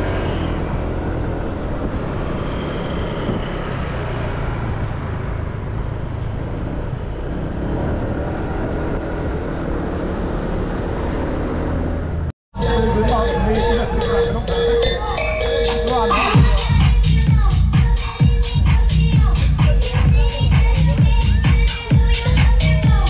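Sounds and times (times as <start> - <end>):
traffic rumbling: 0.0 - 23.0.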